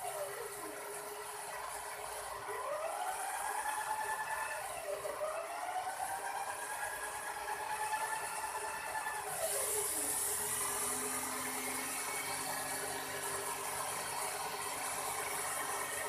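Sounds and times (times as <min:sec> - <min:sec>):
toy helicopter whirring: 0:00.0 - 0:16.0.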